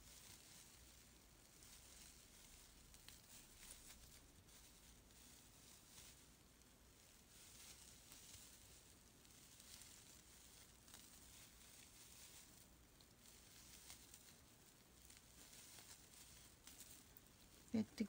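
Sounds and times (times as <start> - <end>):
soft yarn rustling: 0.0 - 18.0.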